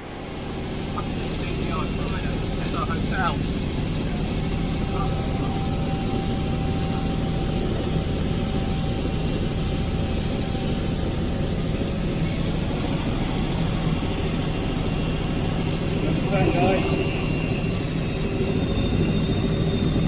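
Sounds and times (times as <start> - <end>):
helicopter engine and rotor drone: 0.0 - 20.0
thin steady whine: 0.0 - 20.0.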